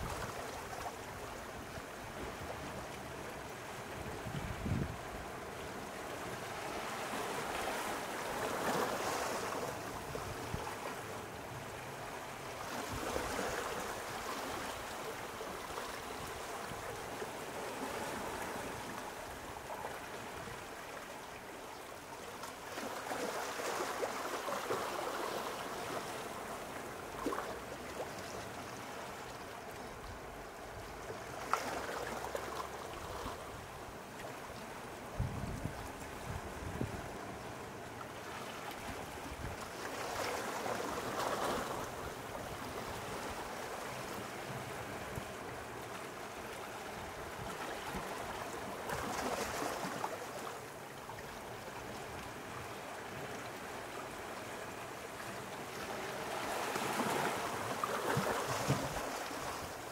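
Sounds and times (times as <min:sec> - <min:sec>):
small waves lapping at shore: 0:00.0 - 0:59.9.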